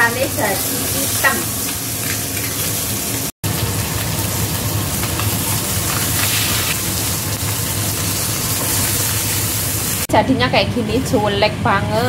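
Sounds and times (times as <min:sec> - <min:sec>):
fish sizzling in hot oil: 0:00.0 - 0:10.1.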